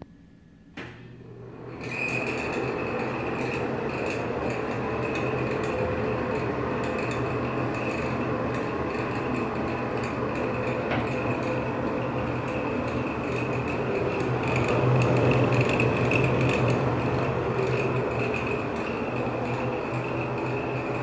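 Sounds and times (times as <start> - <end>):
exhaust fan motor hum: 0.0 - 21.0
fan squeaking: 1.4 - 21.0.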